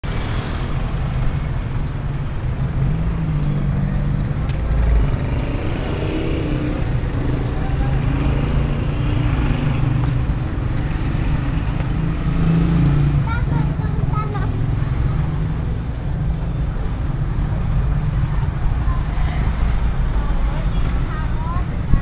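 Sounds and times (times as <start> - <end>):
vehicle engines running: 0.0 - 22.0.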